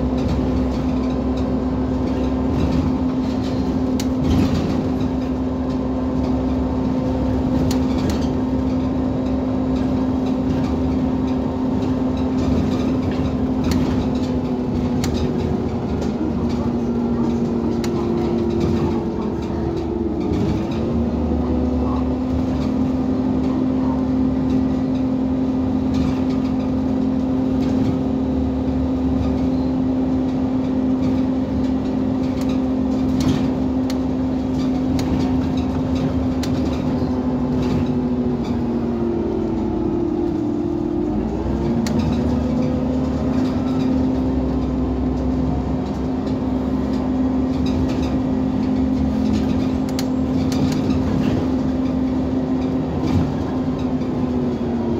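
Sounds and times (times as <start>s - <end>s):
bus engine hum: 0.0s - 54.9s
light rattles and clicks: 0.1s - 54.9s.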